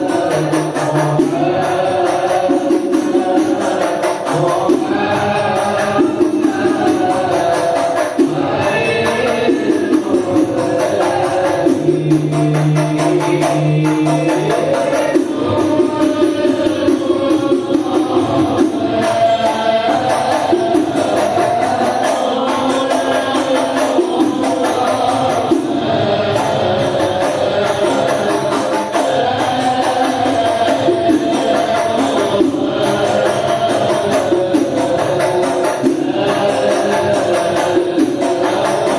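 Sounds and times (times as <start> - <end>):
hand frame drums beat: 0.0 - 38.9
voices singing devotional song: 0.0 - 38.9.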